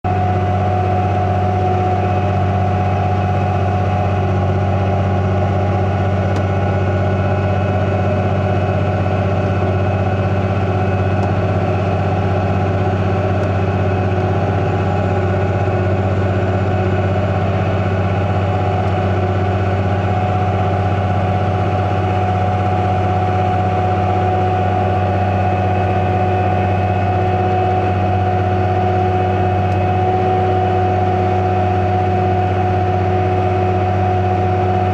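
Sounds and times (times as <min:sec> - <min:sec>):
farm machinery engine running: 0:00.0 - 0:34.9.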